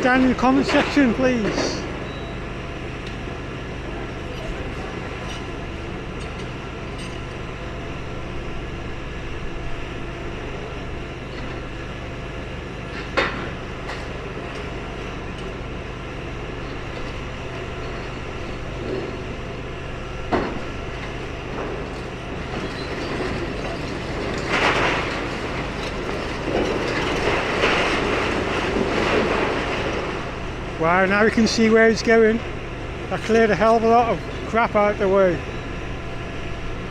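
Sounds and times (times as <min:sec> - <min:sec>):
demolition debris crunching and scraping: 0:00.0 - 0:02.2, 0:03.0 - 0:36.9
excavator engine running: 0:00.0 - 0:36.9.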